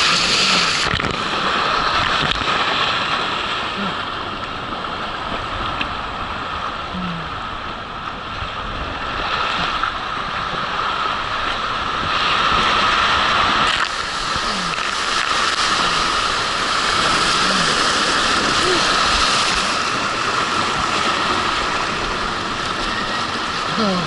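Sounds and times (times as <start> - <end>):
wind noise on microphone: 0.0 - 3.9, 4.5 - 23.8
water rushing down a slide: 0.0 - 5.9, 9.0 - 24.0.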